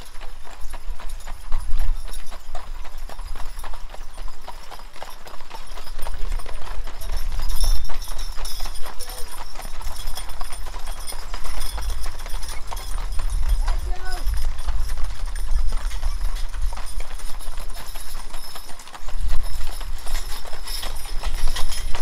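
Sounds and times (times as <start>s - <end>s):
hooves clip-clopping on pavement: 0.0s - 22.0s.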